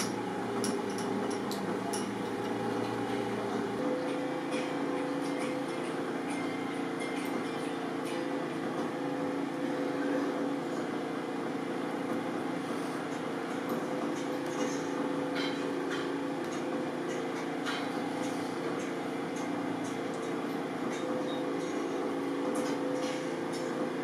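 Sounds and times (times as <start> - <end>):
machine-like hum: 0.0 - 24.0.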